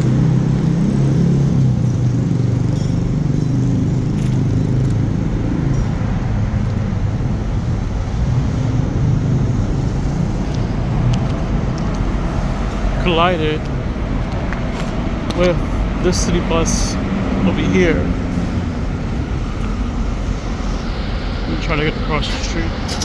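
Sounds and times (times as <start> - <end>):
engine idling rumble: 0.0 - 23.0
street traffic: 0.0 - 23.0.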